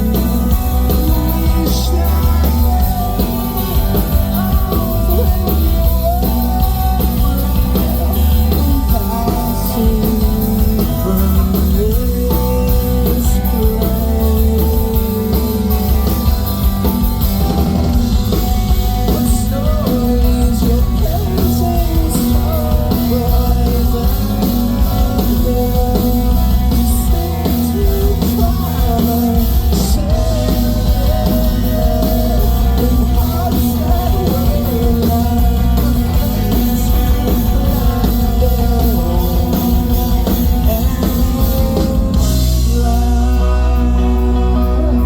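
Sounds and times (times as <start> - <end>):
live rock band playing: 0.0 - 45.0
person singing: 0.0 - 45.0.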